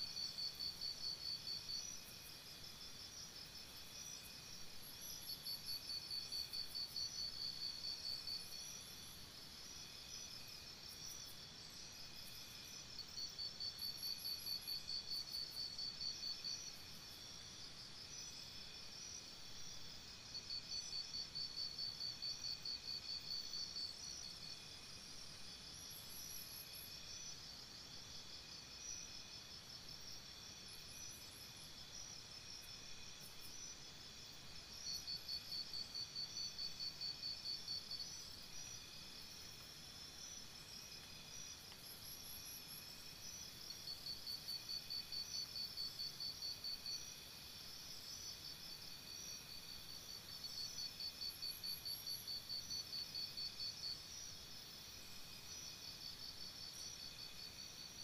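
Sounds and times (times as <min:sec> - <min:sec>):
insect chirping trill: 0:00.0 - 0:58.0.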